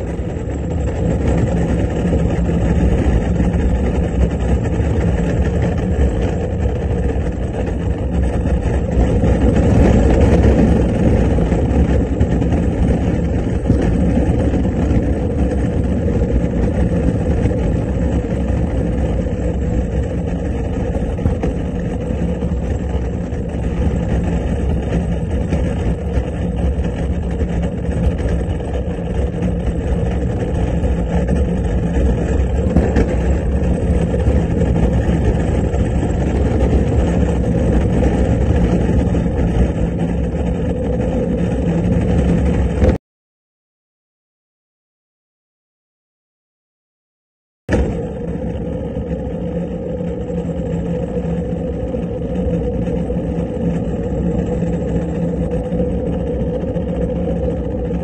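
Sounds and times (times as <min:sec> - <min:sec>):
cart wheels rumbling on pavement: 0:00.0 - 0:43.0, 0:47.7 - 0:58.0.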